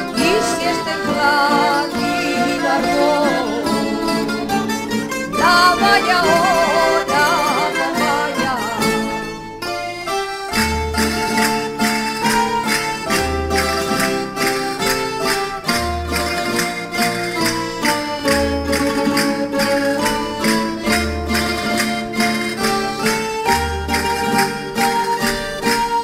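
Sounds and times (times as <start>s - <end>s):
folk string ensemble with accordion: 0.0s - 26.0s.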